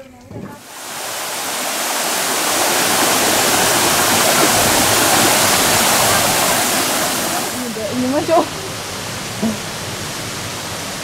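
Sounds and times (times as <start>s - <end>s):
waterfall rushing: 0.6s - 11.0s.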